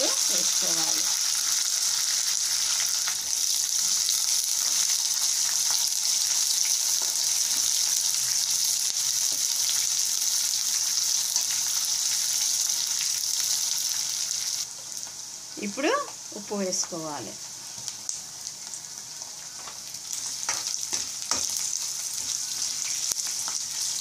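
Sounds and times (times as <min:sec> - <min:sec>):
onions sizzling in oil: 0:00.0 - 0:24.0.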